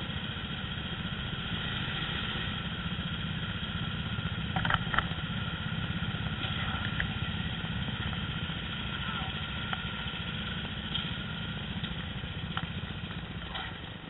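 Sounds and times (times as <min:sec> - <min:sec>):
go-kart engines running: 0:00.0 - 0:14.0.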